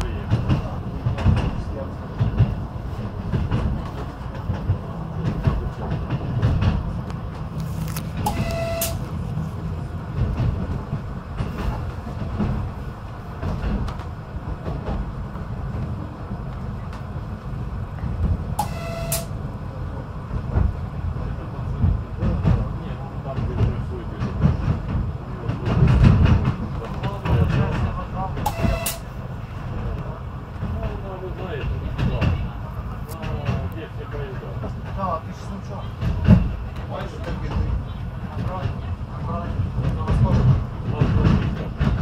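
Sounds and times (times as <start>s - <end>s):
wheels clacking over rail joints: 0.0s - 19.4s, 20.3s - 42.0s
railcar rumbling: 0.0s - 42.0s.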